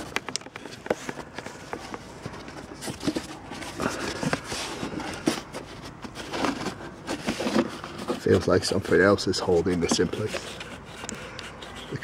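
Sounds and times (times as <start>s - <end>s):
hand knocking and rubbing plastic: 0.0s - 8.4s, 9.6s - 12.0s.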